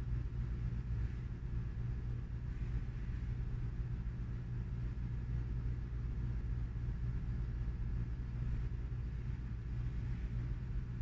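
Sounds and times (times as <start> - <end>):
low room hum and rumble: 0.0 - 11.0.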